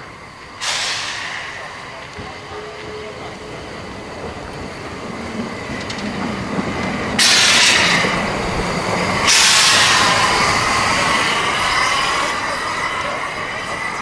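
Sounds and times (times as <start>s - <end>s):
hissing steam blasts: 0.0s - 14.0s
steam locomotive approaching: 0.0s - 14.0s.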